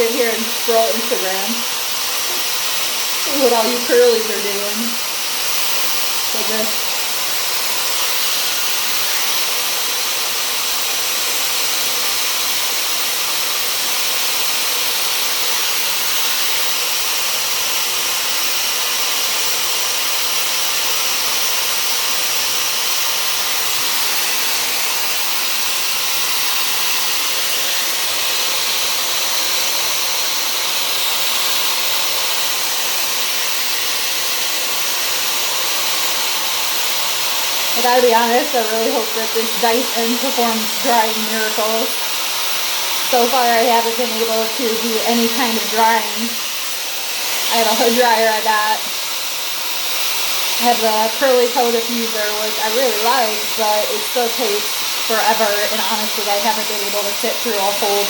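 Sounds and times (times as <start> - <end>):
hair dryer blowing air: 0.0 - 58.0.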